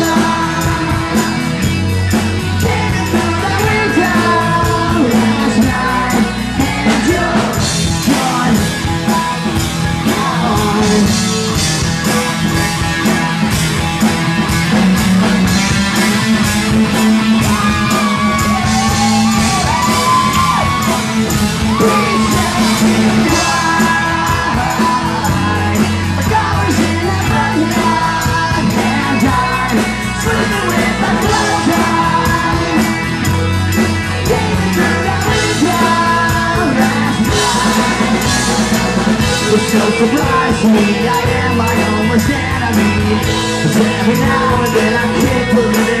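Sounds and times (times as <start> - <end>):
person singing: 0.0 - 11.6, 16.9 - 46.0
live rock band playing: 0.0 - 46.0.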